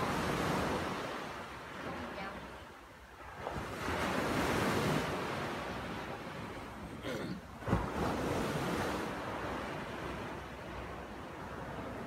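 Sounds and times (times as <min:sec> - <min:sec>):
sea waves breaking on beach: 0:00.0 - 0:12.0.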